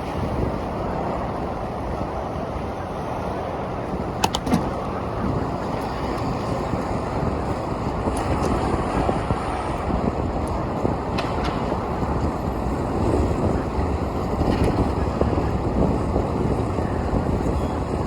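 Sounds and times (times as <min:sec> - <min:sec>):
city street traffic: 0:00.0 - 0:18.0
wind rumbling on microphone: 0:00.0 - 0:18.0.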